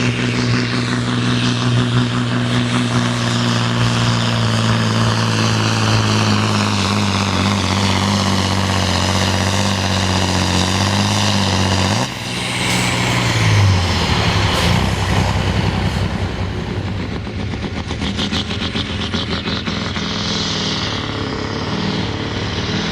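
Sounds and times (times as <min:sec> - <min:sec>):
diesel engine running hard: 0:00.0 - 0:22.9.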